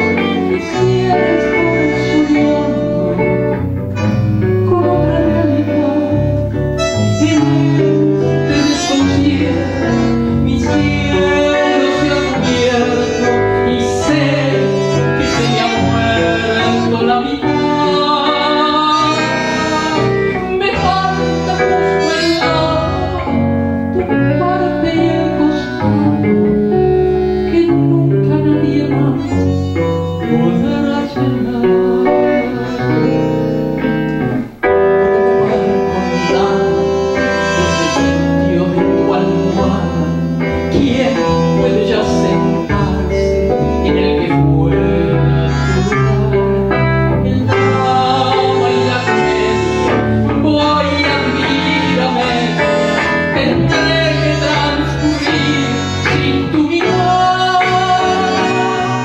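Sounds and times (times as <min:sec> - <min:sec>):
bandoneon: 0:00.0 - 0:59.0
bass: 0:00.0 - 0:59.0
guitar: 0:00.0 - 0:59.0.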